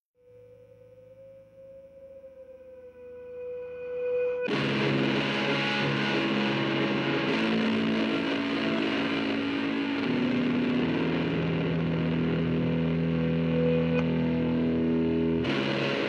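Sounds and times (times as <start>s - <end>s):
distorted electric guitar chords: 0.2s - 16.0s.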